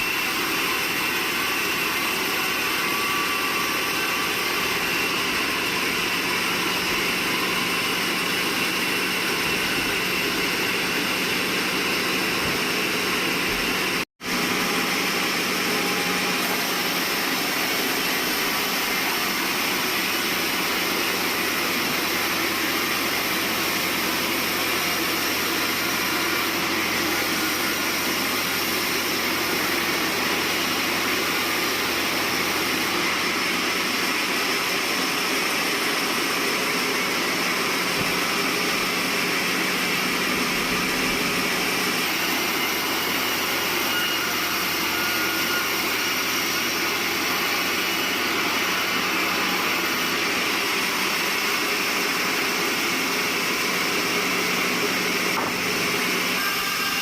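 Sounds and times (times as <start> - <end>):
sawmill machinery din with whine: 0.0 - 57.0.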